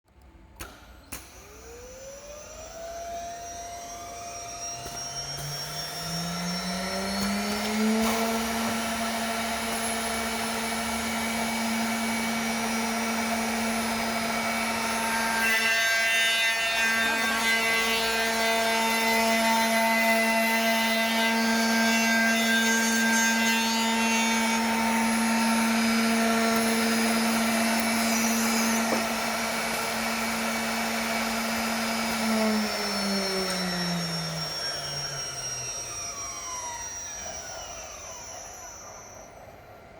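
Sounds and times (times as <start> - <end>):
milling machine spindle whine: 1.3 - 39.9.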